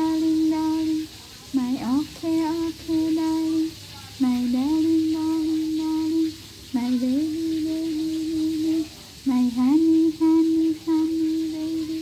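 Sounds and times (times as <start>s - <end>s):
person humming a slow tune: 0.0s - 12.0s.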